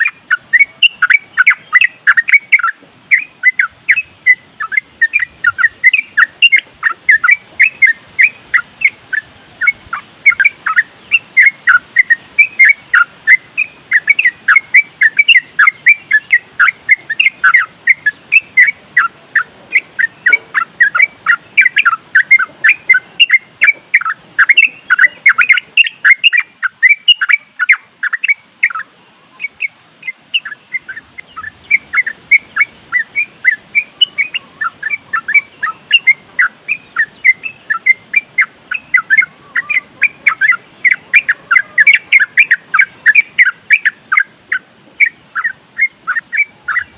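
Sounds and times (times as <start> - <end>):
bird chattering song: 0.0 - 46.9.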